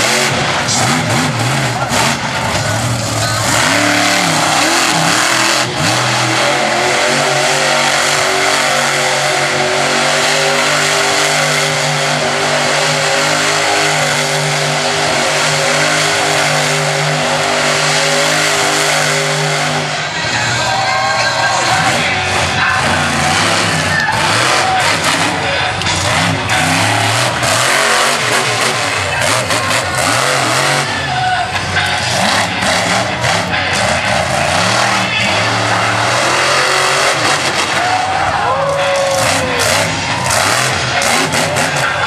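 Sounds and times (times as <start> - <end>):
truck engine revving hard: 0.0 - 42.0.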